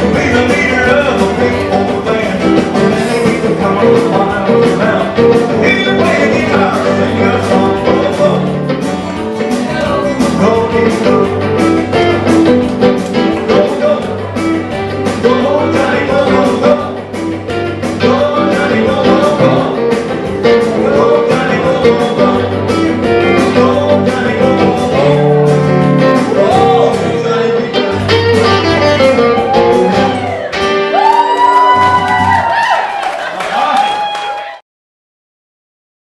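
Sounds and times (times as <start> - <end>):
rock and roll electric guitar: 0.0 - 33.0.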